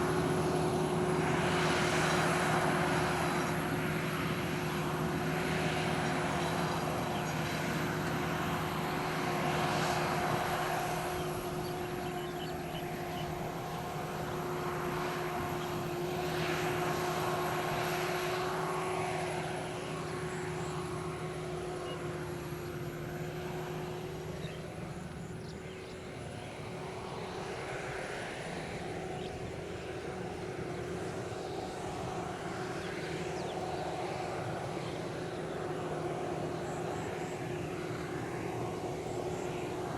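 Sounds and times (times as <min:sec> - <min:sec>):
combine harvester machinery drone: 0:00.0 - 0:39.9.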